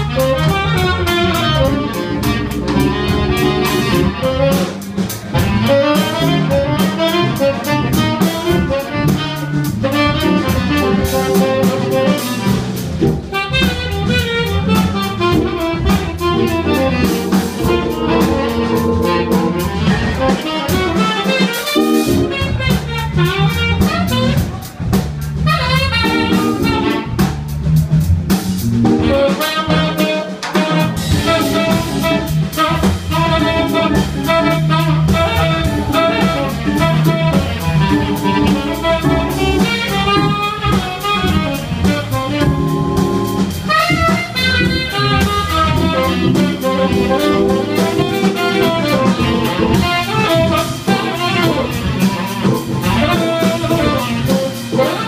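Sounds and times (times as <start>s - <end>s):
organ playing: 0.0s - 21.1s, 21.7s - 23.8s, 25.8s - 27.4s, 28.6s - 29.9s, 30.9s - 55.0s
tenor saxophone melody: 0.0s - 24.5s, 25.5s - 27.3s, 28.9s - 55.0s
drum kit playing: 0.0s - 55.0s.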